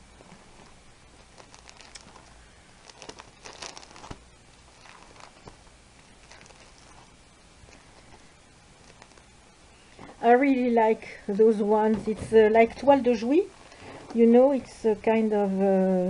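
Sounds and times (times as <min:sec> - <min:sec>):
plastic sleeves crinkling: 0:00.0 - 0:16.0.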